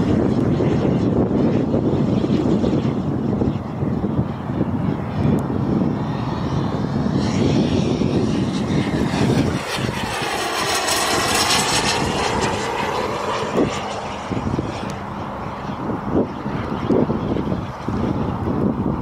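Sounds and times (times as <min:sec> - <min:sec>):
jet turbine whine passing: 0:00.0 - 0:19.0
low rumble: 0:00.0 - 0:19.0.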